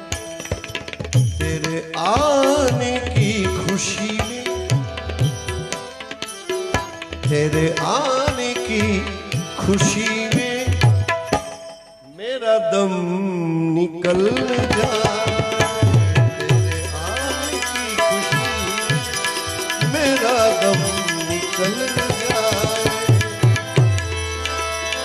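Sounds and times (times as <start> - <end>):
tabla strokes: 0.0 - 11.9, 14.0 - 25.0.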